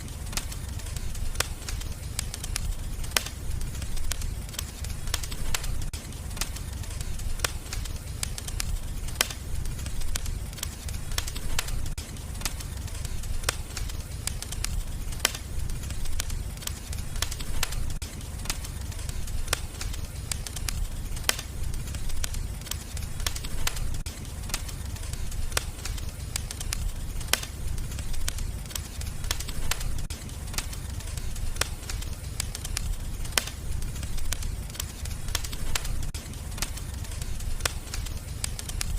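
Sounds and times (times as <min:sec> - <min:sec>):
low fire rumble: 0:00.0 - 0:38.9
wood fire crackling and popping: 0:00.0 - 0:38.9.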